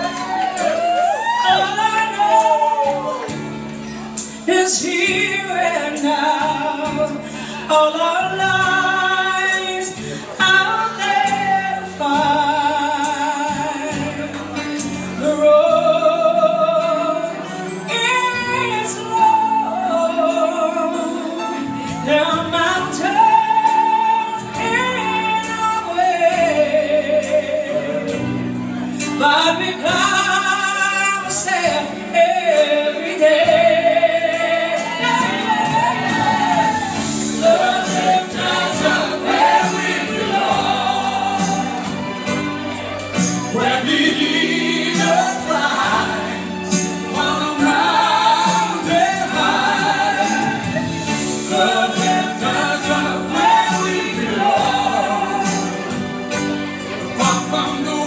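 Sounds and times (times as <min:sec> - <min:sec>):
woman singing a ballad: 0:00.0 - 0:42.4, 0:43.2 - 0:56.1, 0:56.9 - 0:58.0
backing music: 0:00.0 - 0:58.0.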